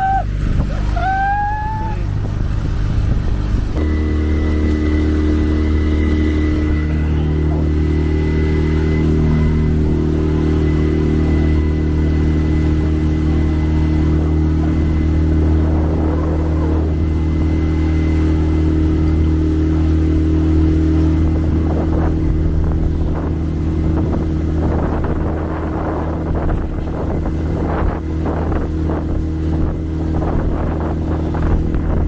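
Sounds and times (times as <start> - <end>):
boat engine drone with whine: 0.0 - 32.0.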